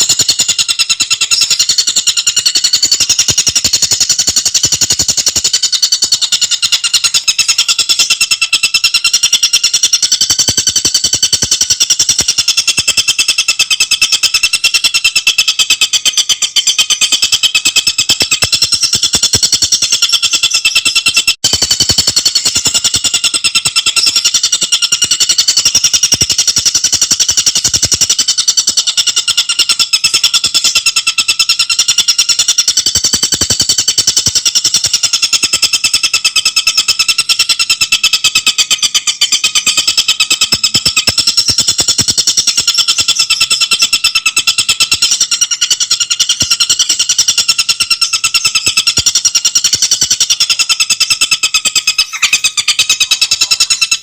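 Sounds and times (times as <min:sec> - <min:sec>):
bird chattering call: 0:00.0 - 0:54.0.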